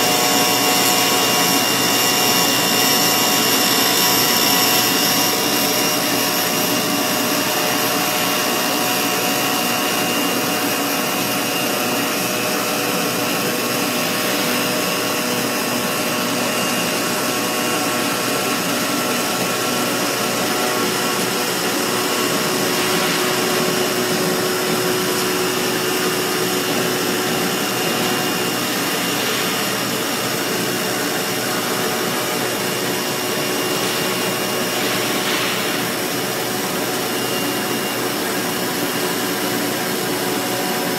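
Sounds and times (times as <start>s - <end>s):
foam-cutting machine running: 0.0s - 40.9s.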